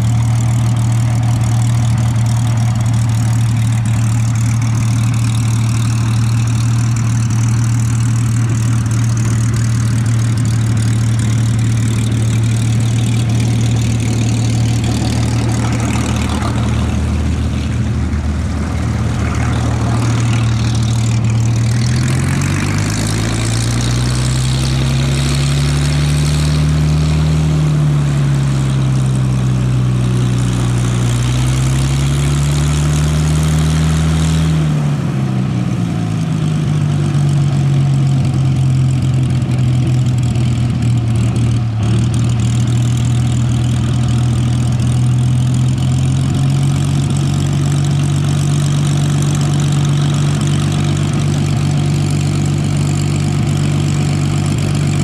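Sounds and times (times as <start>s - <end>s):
propeller aircraft engine rumble: 0.0s - 55.0s.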